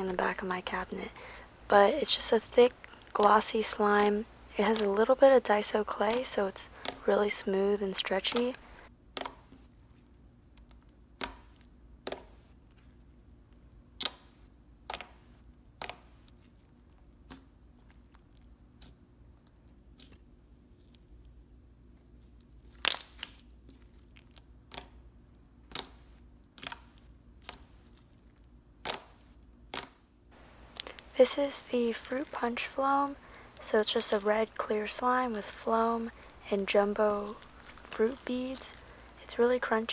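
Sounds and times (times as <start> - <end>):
slime squishing with pops: 0.3 - 7.0, 7.8 - 39.9.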